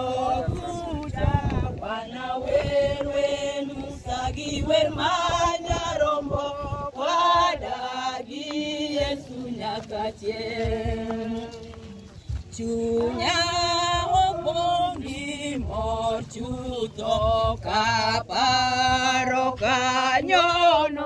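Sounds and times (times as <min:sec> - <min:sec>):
group singing a hymn: 0:00.0 - 0:21.0.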